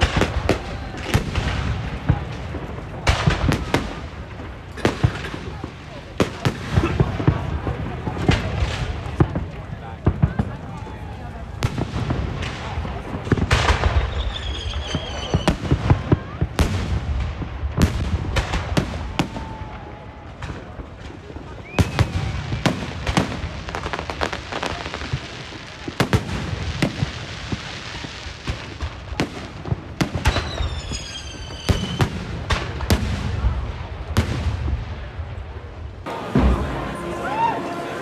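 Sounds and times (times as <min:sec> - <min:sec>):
whistling firework: 0:00.0 - 0:02.2, 0:06.4 - 0:34.7, 0:35.6 - 0:38.0
crowd voices: 0:00.0 - 0:38.0
fireworks and firecrackers banging: 0:00.0 - 0:38.0.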